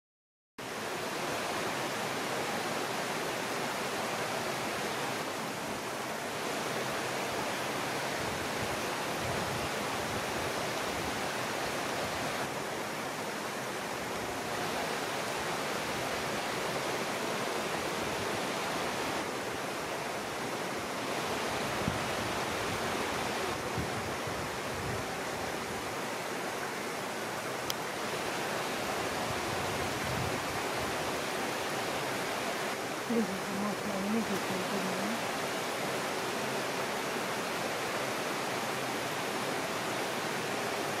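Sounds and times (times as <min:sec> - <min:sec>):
stream running over rocks: 0:00.6 - 0:41.0.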